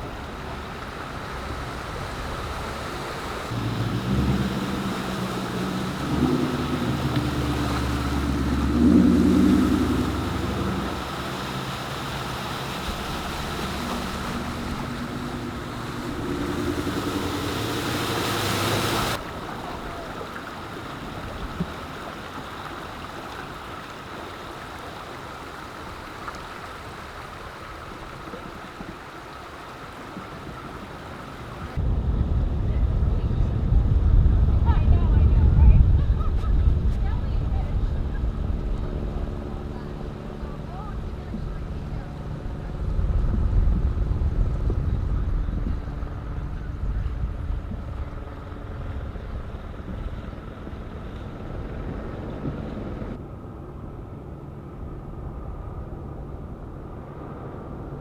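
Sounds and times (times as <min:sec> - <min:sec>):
engine running unevenly: 0:00.0 - 0:24.0, 0:27.6 - 0:53.2
rushing water or wind noise: 0:00.0 - 0:58.0.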